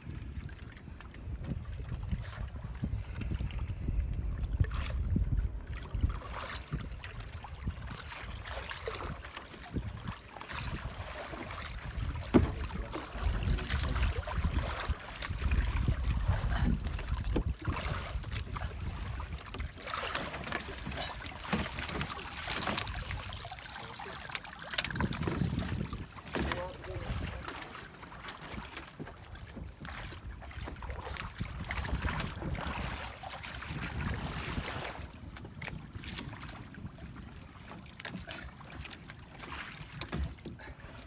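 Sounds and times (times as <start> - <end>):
wind rumbling on microphone: 0.0 - 23.6, 24.7 - 27.8, 28.6 - 38.2
water splashing and streaming: 0.0 - 41.0.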